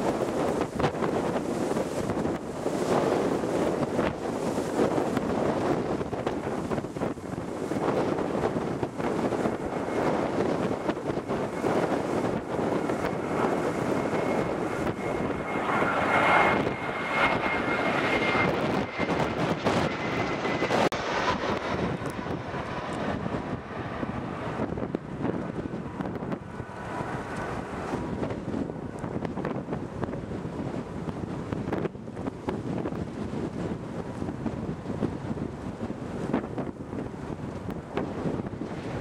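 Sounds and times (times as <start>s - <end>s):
jet engine high whine: 0.0s - 39.0s
jet engines droning: 0.0s - 39.0s
wind on microphone: 0.0s - 39.0s.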